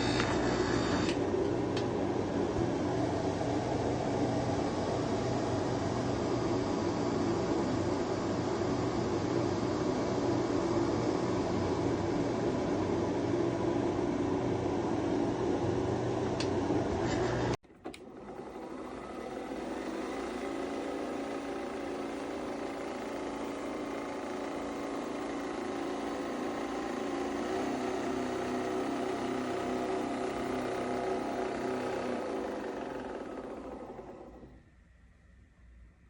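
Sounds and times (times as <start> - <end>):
coffee machine whirring hum: 0.0 - 35.0.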